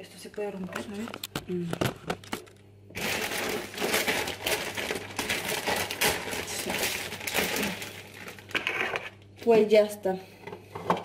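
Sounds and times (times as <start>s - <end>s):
plastic bag crinkling: 0.4s - 9.3s.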